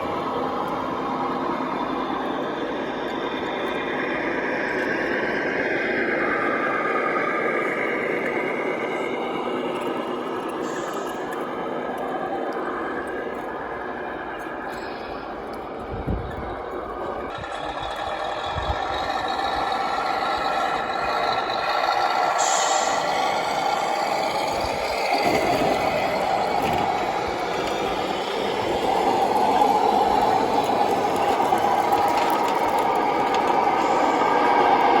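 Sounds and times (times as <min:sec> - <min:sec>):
model truck running: 0:00.0 - 0:35.0.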